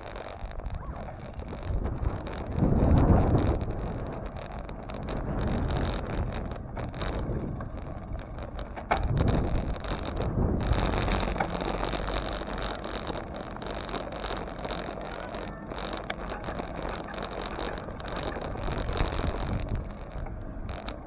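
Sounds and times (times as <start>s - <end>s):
low road noise rumble: 0.0s - 21.0s
wind on microphone: 0.0s - 21.0s.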